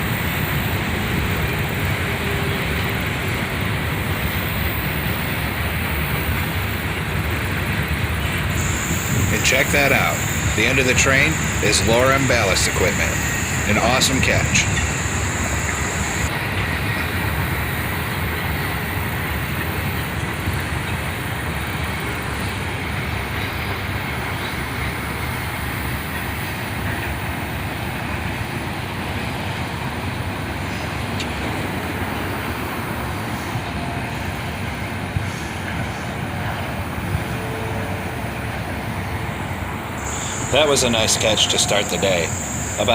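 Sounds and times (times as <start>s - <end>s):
train cars rumbling on rails: 0.0s - 42.9s.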